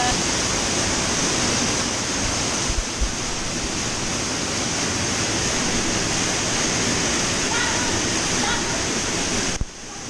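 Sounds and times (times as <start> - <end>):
cave stream rushing water: 0.0 - 10.0.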